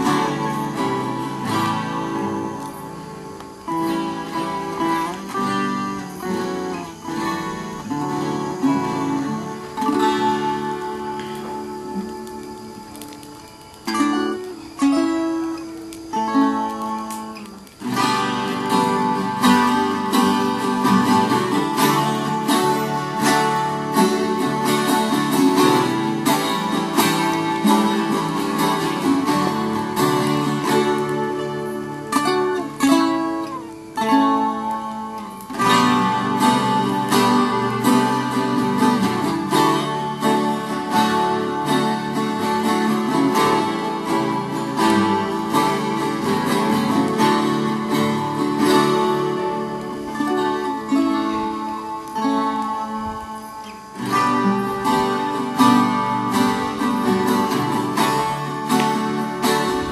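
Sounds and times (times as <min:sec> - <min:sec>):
plucked folk guitar: 0:00.0 - 0:59.9.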